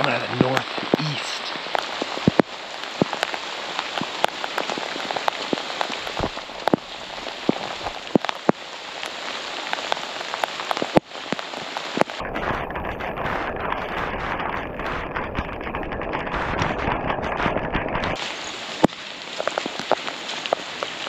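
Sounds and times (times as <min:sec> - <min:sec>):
heavy rain falling: 0:00.0 - 0:21.0
raindrops tapping close by: 0:00.0 - 0:21.0.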